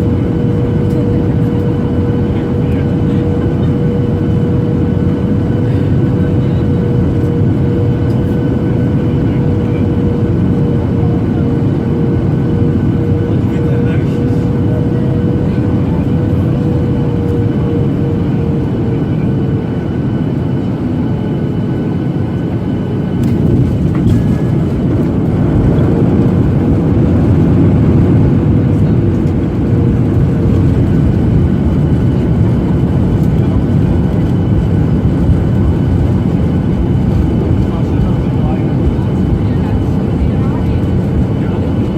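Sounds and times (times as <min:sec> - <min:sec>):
aircraft cabin engine roar: 0:00.0 - 0:41.9.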